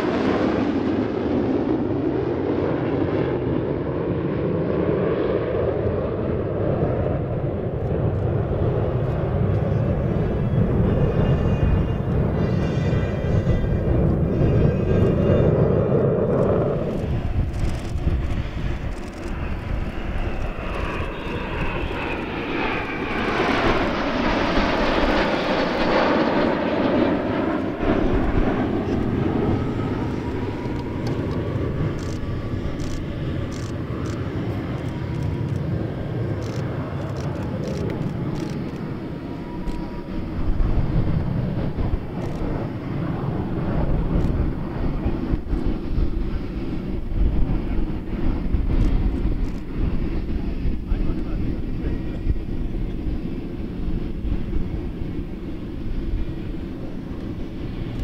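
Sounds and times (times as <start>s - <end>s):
jet engines passing: 0.0s - 58.0s.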